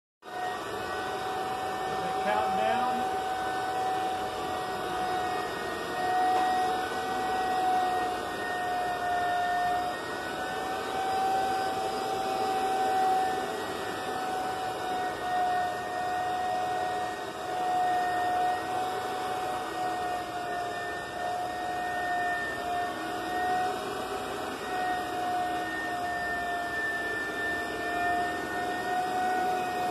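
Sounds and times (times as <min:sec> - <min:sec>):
floor burnisher motor whine: 0:00.2 - 0:29.9.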